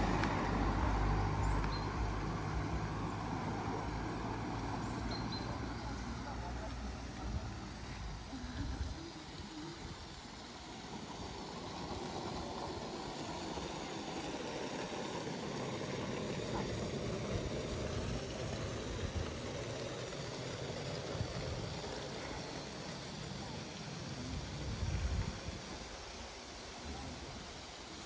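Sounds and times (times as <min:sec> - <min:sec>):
low rumbling street noise: 0:00.0 - 0:28.0.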